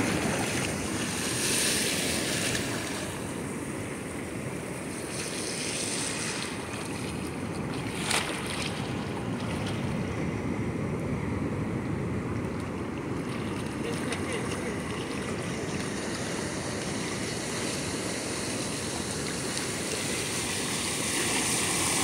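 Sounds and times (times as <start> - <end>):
waves breaking: 0.0 - 22.0.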